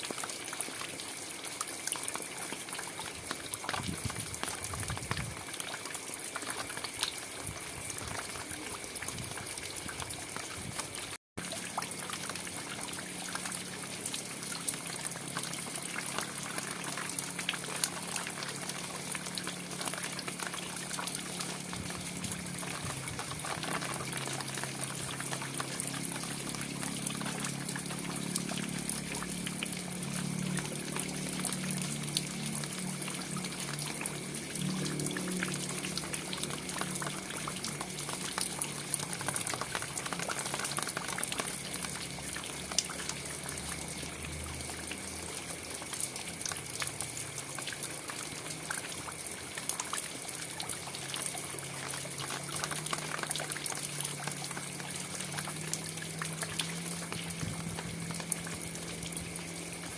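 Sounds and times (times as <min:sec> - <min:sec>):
rain falling: 0:00.0 - 0:59.9
sharp drips: 0:00.0 - 0:59.9
water trickling: 0:00.0 - 0:59.9.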